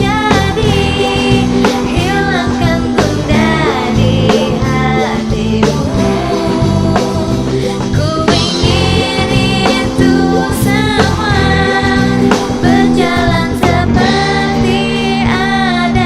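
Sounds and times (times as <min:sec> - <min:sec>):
band playing a song: 0:00.0 - 0:16.0
lead singer singing: 0:00.0 - 0:16.0.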